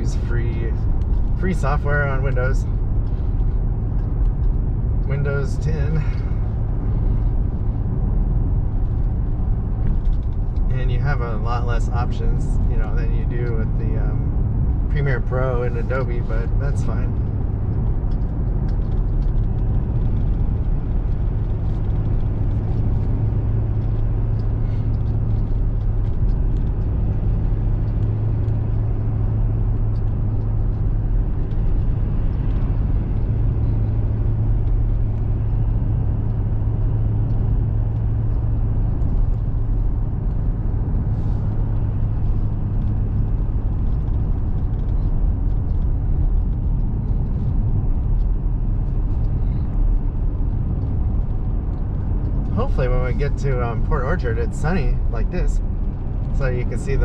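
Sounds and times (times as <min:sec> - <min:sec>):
engine drone inside truck cab: 0:00.0 - 0:57.0.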